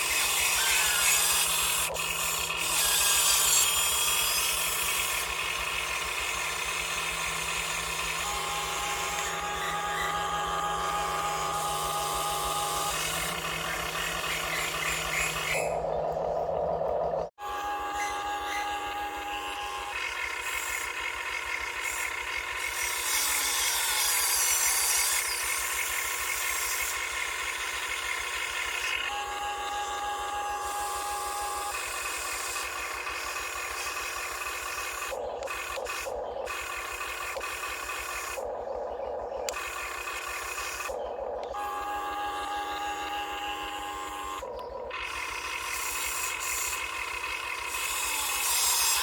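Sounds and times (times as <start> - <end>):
toy excavator motors whining: 0.0 - 49.0.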